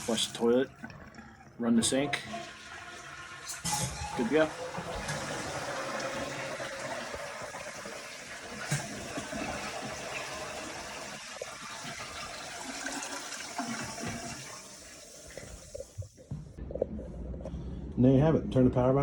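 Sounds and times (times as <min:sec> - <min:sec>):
toilet flushing: 0:00.0 - 0:15.9.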